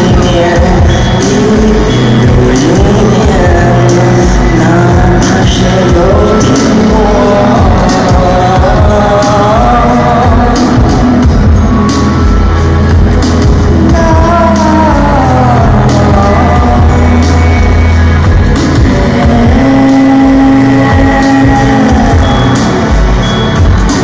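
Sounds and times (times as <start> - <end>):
live pop-rock band playing: 0.0 - 24.0.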